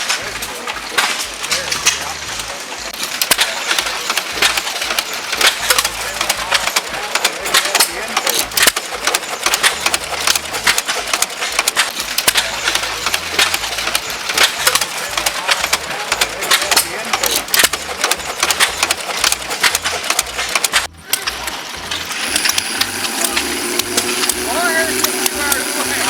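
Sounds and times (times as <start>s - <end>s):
murmur of voices: 0.0s - 26.0s
stationary engines clattering: 0.0s - 26.0s.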